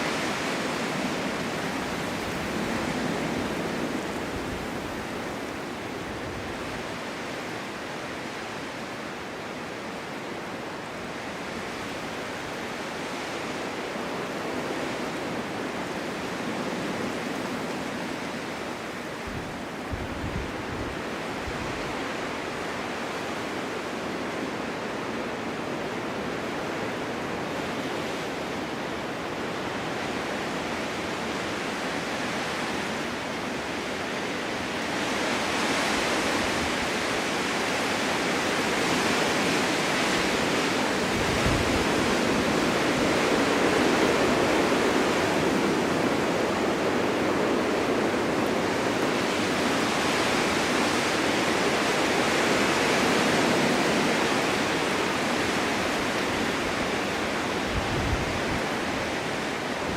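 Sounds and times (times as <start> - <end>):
snowstorm wind rushing: 0.0 - 8.4, 10.8 - 23.4, 26.7 - 59.9.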